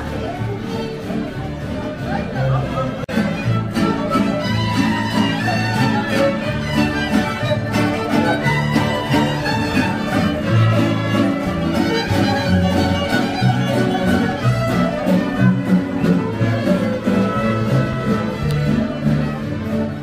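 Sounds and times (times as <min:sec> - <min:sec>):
fiddle melody: 0:00.0 - 0:20.0
guitars strumming: 0:00.0 - 0:20.0.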